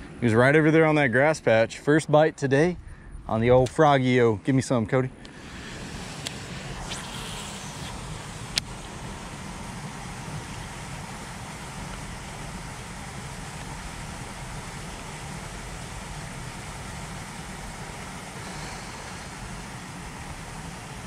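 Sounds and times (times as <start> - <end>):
outdoor background hiss: 0.0 - 21.0
steady low rumble: 0.0 - 21.0.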